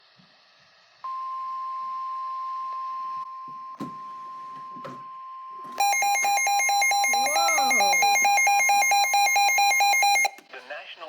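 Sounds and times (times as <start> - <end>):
steady warning alarm tone: 1.1 - 10.4.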